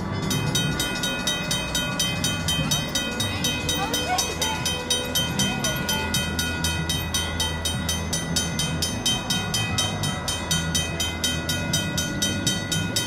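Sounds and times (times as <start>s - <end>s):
crossing bells ringing rapidly: 0.0s - 13.0s
low steady rumble: 0.0s - 13.0s.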